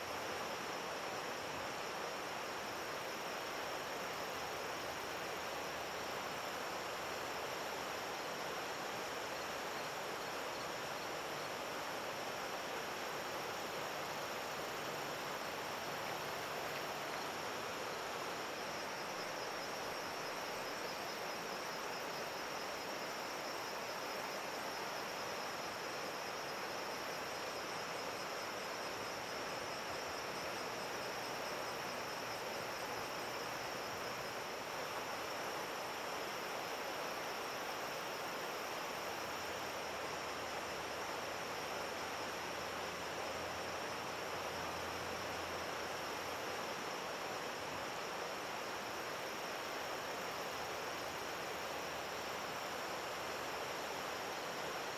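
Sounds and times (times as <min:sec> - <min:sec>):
background hiss: 0:00.0 - 0:54.9
crickets trilling: 0:00.0 - 0:54.9.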